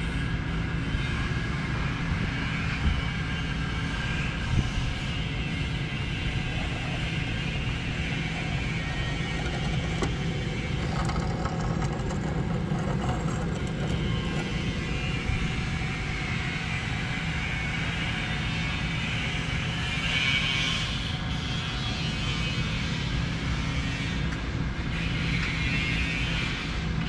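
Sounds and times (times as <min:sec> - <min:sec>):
surface grinder humming and hissing: 0:00.0 - 0:27.0.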